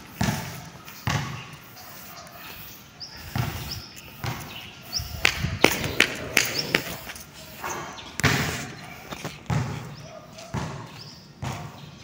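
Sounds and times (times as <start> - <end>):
footsteps on concrete: 0.0 - 12.0.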